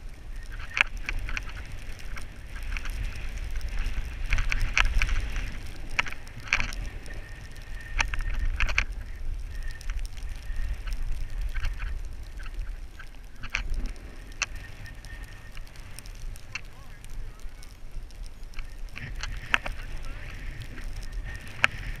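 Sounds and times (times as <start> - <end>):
skis scraping over snow: 0.0 - 22.0
wind rumbling on microphone: 0.0 - 22.0.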